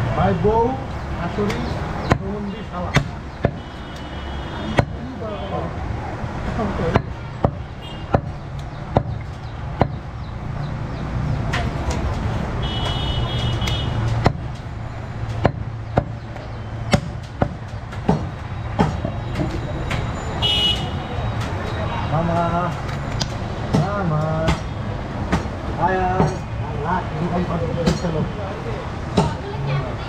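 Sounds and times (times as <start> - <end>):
market and traffic hum: 0.0 - 30.0.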